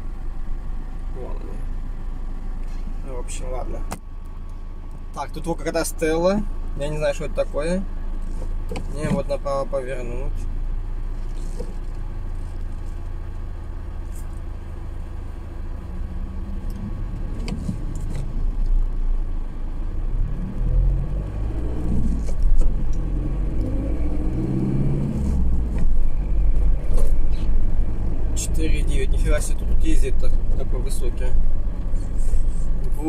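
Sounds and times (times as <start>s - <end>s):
vehicle engine rumbling and accelerating: 0.0s - 33.0s.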